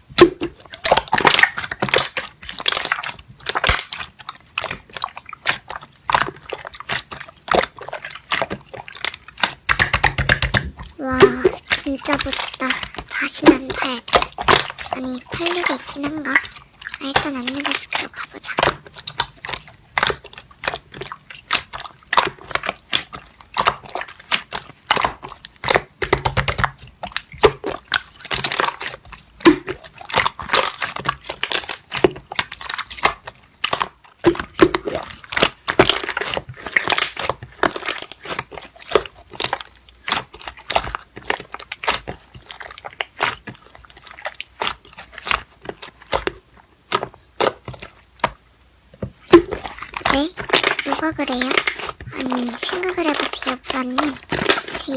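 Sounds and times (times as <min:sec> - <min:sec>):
slime crackling and popping: 0:00.0 - 0:54.9.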